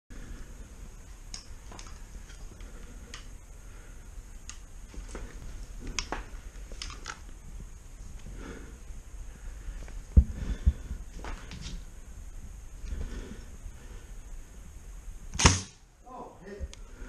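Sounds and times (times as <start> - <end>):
low steady rumble: 0.1 - 17.0.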